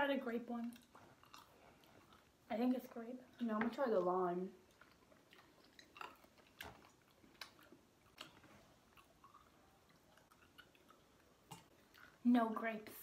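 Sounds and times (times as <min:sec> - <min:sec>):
chewing hard candies: 0:00.6 - 0:12.2.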